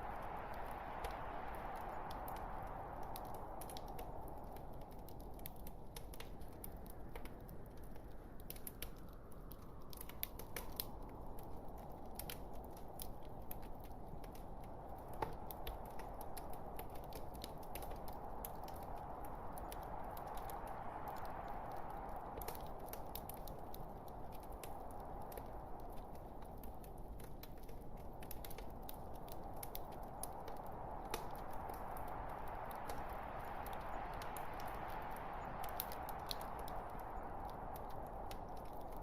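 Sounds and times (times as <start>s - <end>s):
logs crackling and popping: 0.0s - 39.0s.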